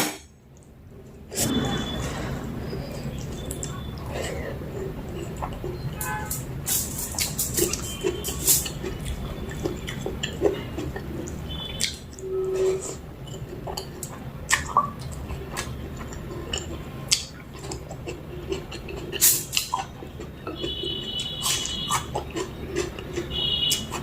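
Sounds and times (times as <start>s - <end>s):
person chewing wet food: 1.8s - 24.0s.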